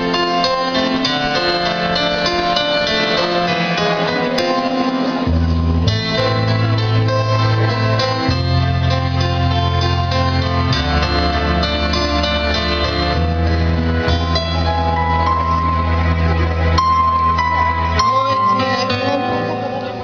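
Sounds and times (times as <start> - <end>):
stage performance music: 0.0 - 20.0
deep bass notes: 1.0 - 20.0.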